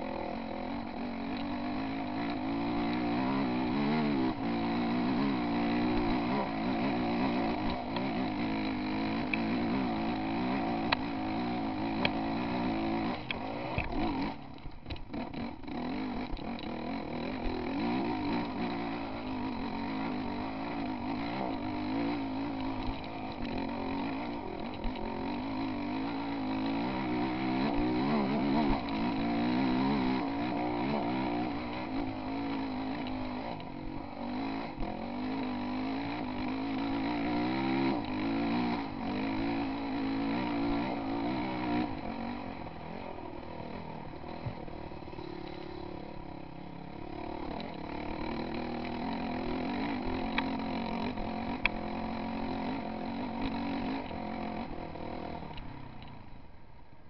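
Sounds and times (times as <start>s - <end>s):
dirt bike engine revving: 0.0s - 56.1s.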